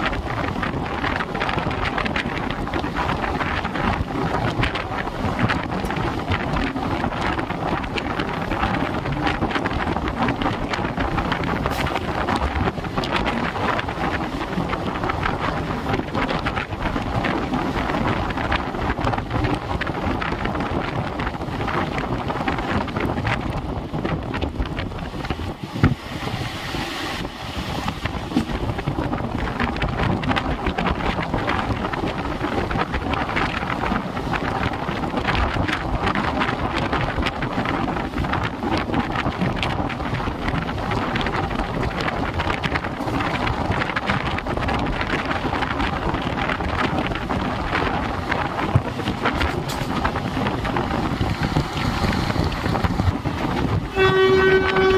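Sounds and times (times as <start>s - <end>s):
train wheels rumbling and clattering: 0.0s - 54.9s
wind buffeting microphone: 0.0s - 54.9s.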